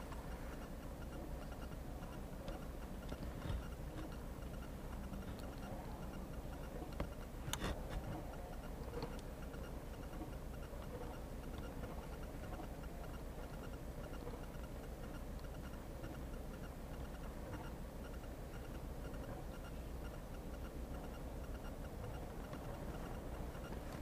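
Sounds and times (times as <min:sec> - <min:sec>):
faint repeating ticking: 0:00.0 - 0:24.0.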